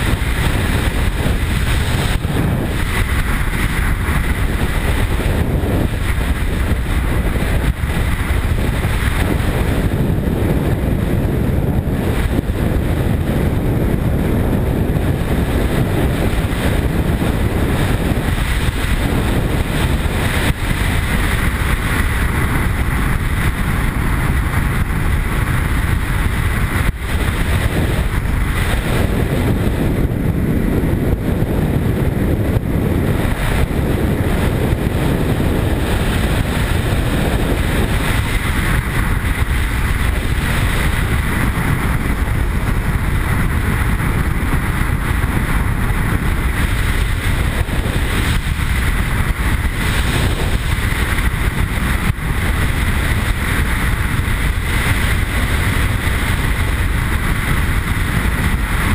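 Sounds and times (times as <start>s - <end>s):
motorcycle engine cruising: 0.0s - 58.9s
wind rushing on microphone: 0.0s - 58.9s.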